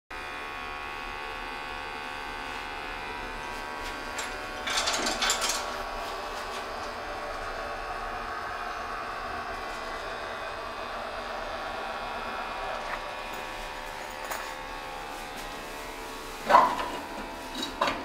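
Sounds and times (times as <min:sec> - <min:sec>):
pellet boiler motor whir: 0:00.2 - 0:18.0.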